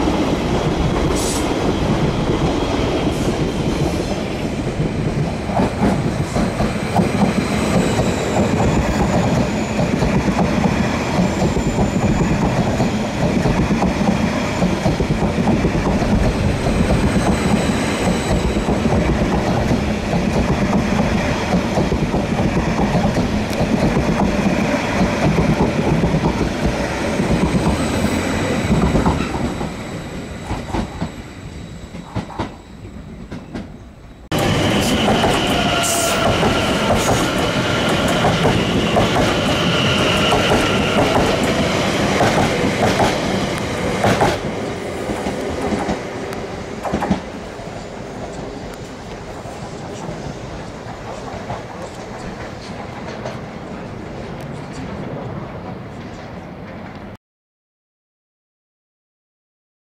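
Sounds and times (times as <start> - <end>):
train running on rails: 0.0 - 57.2.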